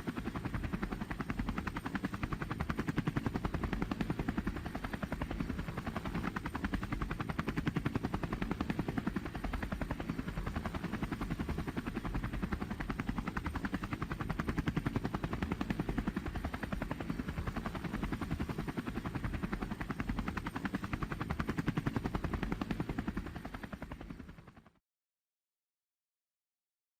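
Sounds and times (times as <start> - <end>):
helicopter engine noise: 0.0 - 24.7
helicopter rotor beating: 0.0 - 24.7.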